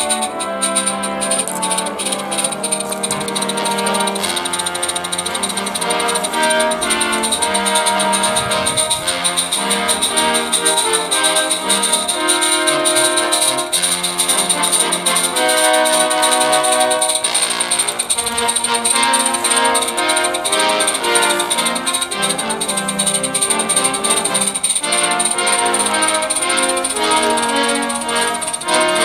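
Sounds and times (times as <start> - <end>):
orchestral music with brass: 0.0 - 29.0.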